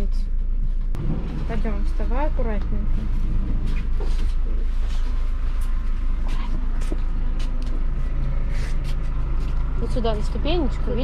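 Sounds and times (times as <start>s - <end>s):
ambulance engine idling: 0.4s - 11.0s.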